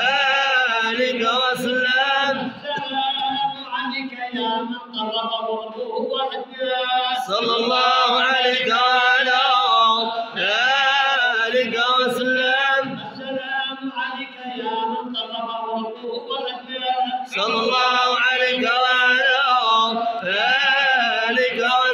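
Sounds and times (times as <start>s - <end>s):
men chanting in unison: 0.0s - 21.9s.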